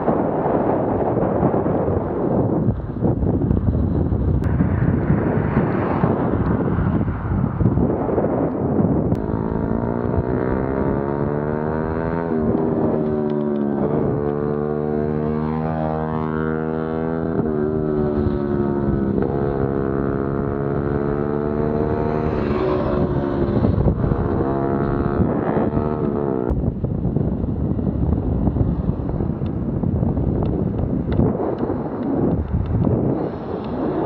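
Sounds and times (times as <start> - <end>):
road noise: 0.0 - 34.0
wind buffeting microphone: 0.0 - 34.0.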